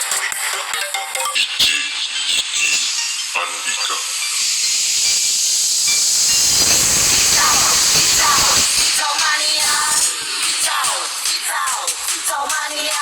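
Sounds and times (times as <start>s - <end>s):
loud steady hiss: 1.6s - 13.0s.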